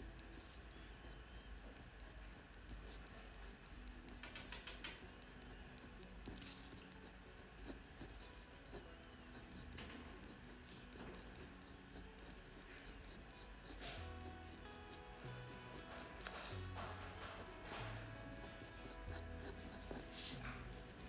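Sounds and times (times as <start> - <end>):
pencil scratching on paper: 0.0 - 21.0.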